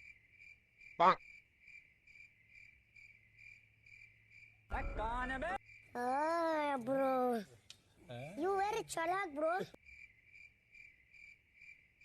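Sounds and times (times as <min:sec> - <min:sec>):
crickets chirping: 0:00.0 - 0:06.2, 0:08.4 - 0:12.0.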